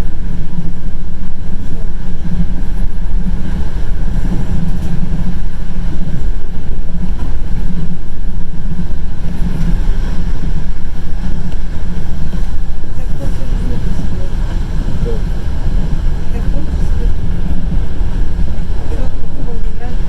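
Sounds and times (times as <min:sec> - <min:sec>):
train rumbling along track: 0:00.0 - 0:20.0
wind noise at window: 0:00.0 - 0:20.0.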